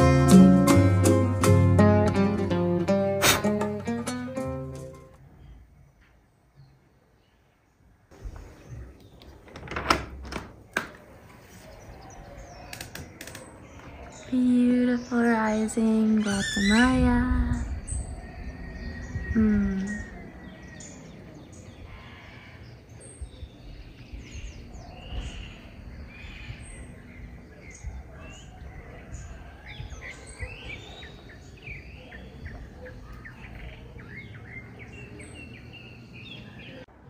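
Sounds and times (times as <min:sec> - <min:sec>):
birds chirping: 0:01.8 - 0:37.0.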